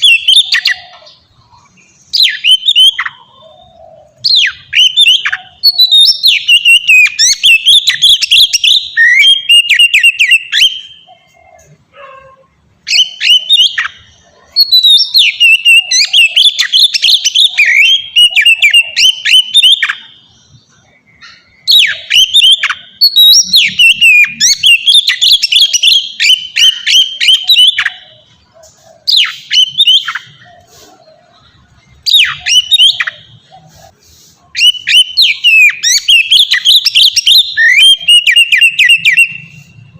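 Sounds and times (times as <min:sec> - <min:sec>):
songbird whistling and chattering: 0:00.0 - 0:12.2, 0:12.8 - 0:39.9.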